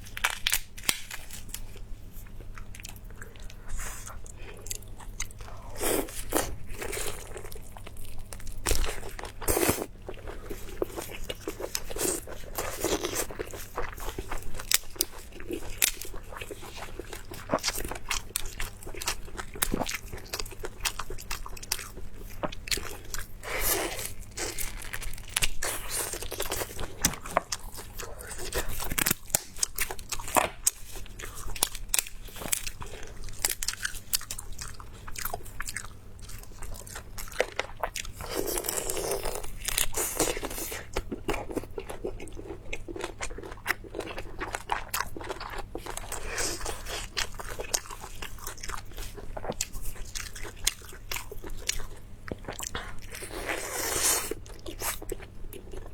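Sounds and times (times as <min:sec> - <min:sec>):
person chewing crunchy food: 0:00.0 - 0:55.9.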